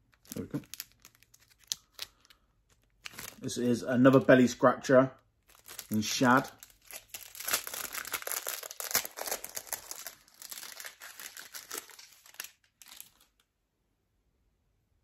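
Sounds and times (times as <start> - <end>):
packaging crinkling: 0.0 - 4.6, 5.4 - 13.5.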